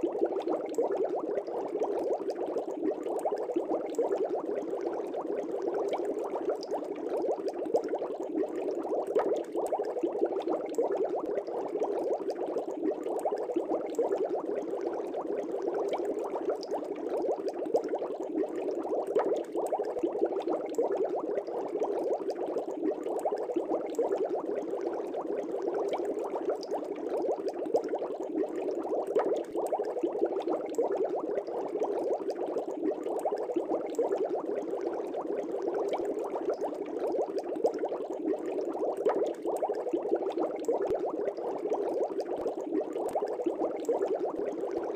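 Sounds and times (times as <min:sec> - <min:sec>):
aquarium air bubbles popping: 0:00.0 - 0:44.9.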